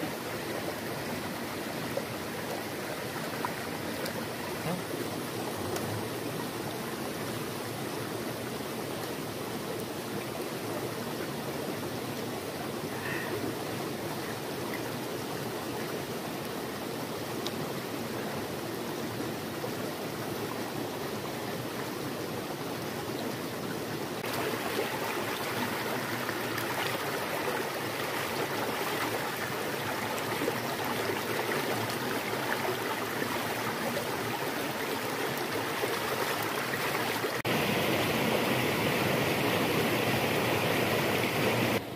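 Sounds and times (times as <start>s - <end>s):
stream babbling: 0.0s - 41.9s.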